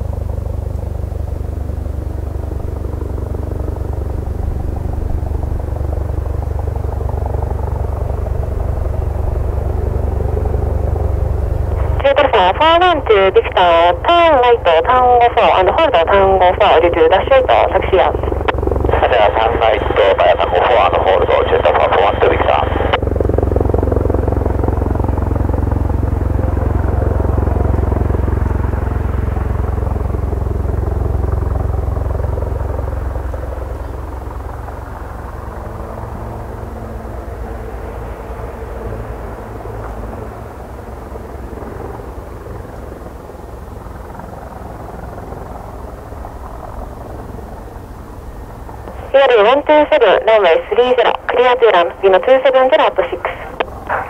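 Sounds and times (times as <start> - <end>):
helicopter rotor beating: 0.0 - 54.0.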